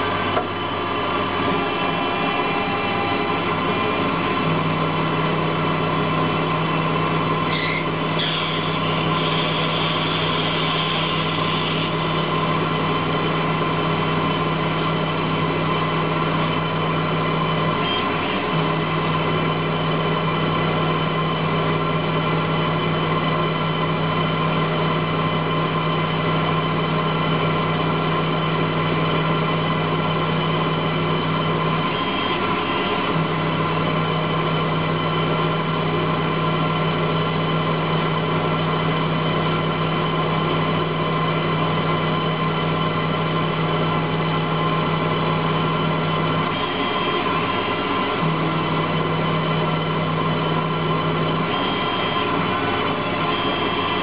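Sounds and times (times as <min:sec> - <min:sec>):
lathe machine hum: 0:00.0 - 0:54.0.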